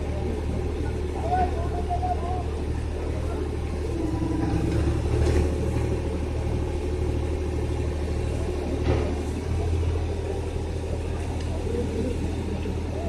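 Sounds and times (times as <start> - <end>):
diesel engines rumbling: 0.0 - 13.0.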